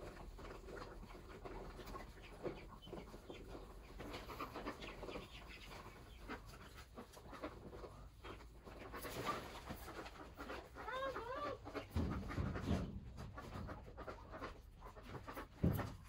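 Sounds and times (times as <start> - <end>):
birds scuffling on dirt: 0.0 - 16.0
chicken clucking: 0.0 - 16.0
ducks calling: 1.1 - 16.0.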